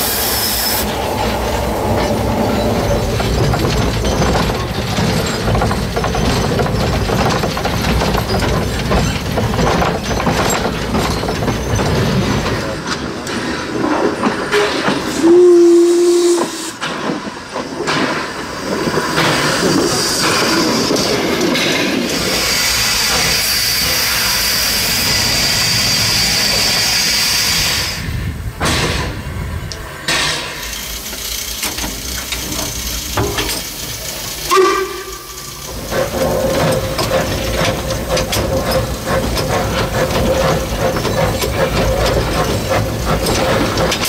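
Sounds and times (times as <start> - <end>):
steam locomotive hissing steam: 0.0 - 7.8, 13.3 - 44.0
locomotive running hum: 0.0 - 44.0.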